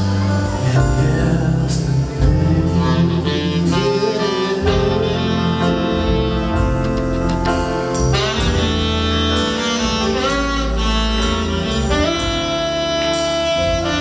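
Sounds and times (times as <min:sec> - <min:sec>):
big band playing jazz: 0:00.0 - 0:14.0
saxophone melody: 0:00.0 - 0:14.0.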